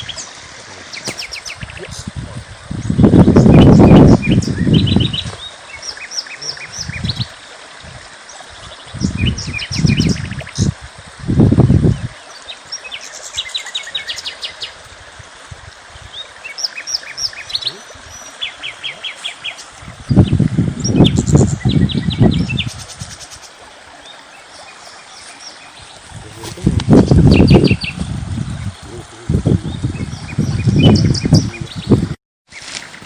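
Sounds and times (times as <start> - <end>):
songbirds chirping and singing: 0.0 - 7.4, 8.3 - 10.8, 16.0 - 32.8.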